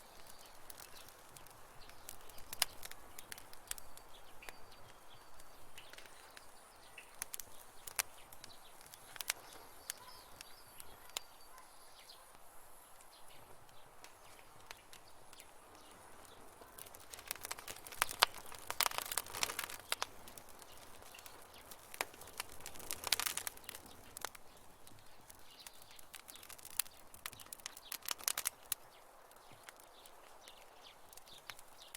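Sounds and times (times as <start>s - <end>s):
campfire crackling: 0.0s - 31.9s
faint steady hiss: 0.0s - 31.9s.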